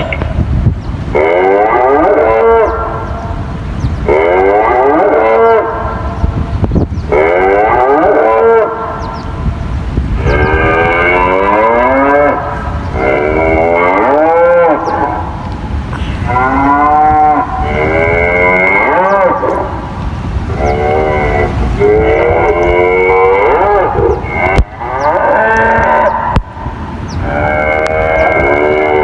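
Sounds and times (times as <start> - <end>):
cow mooing over loudspeakers: 1.1 - 29.0.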